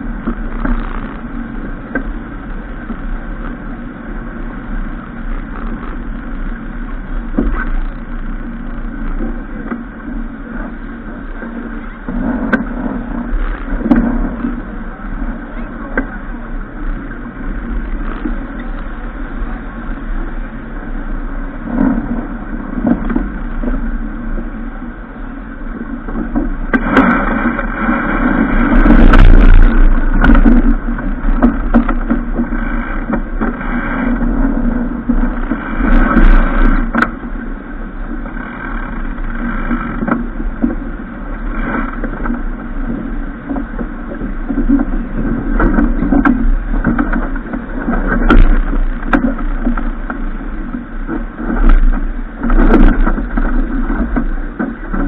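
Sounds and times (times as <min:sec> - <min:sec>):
boat rushing through water: 0:00.0 - 0:55.0.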